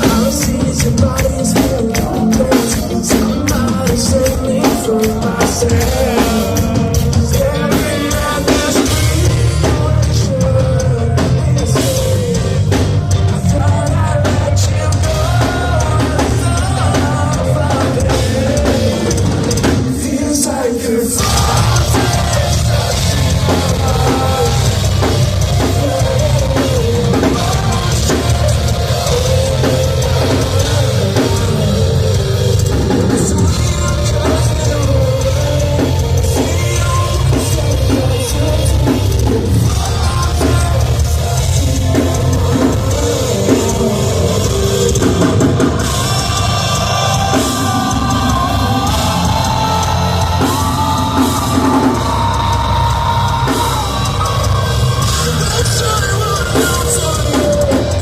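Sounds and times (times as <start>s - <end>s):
drum kit pounding: 0.0s - 58.0s
rock band playing heavy music: 0.0s - 58.0s.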